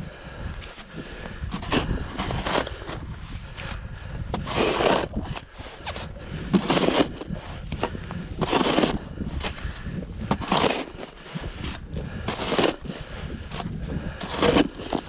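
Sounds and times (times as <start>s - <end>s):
wind rumbling on microphone: 0.0s - 15.0s
snow shovel scraping snow: 1.5s - 3.0s, 4.3s - 15.0s.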